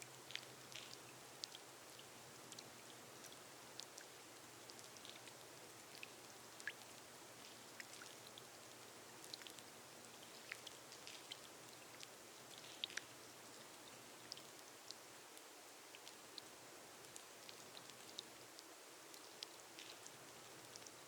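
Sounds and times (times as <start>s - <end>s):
rain hissing on glass roof: 0.0s - 21.0s.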